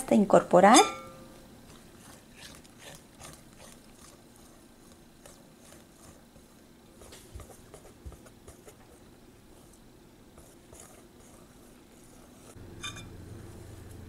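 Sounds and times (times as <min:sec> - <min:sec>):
whisk stirring in glass bowl: 0:01.6 - 0:14.0.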